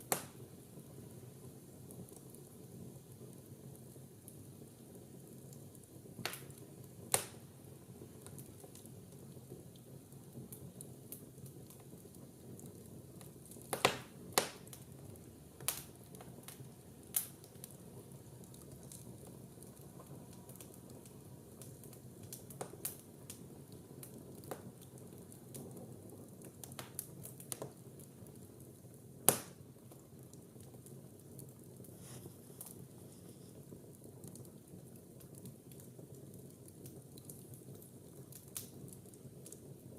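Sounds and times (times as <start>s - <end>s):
fire crackling and popping: 0.0s - 39.9s
wood fire hissing: 0.0s - 39.9s.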